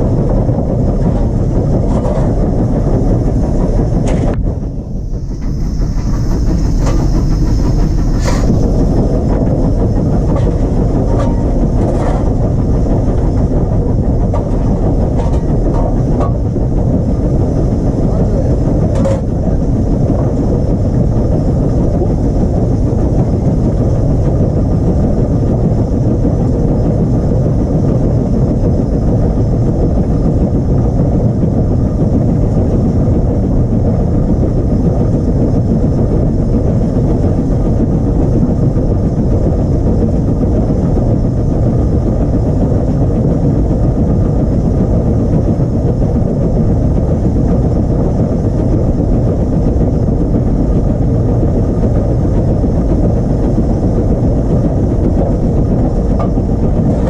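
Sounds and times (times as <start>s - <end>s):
steam locomotive running noise: 0.0s - 57.0s.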